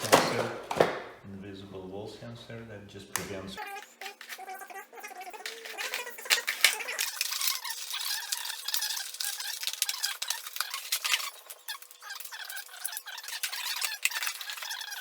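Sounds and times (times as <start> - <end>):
plastic and cardboard crinkling: 0.0 - 1.1, 3.6 - 15.0.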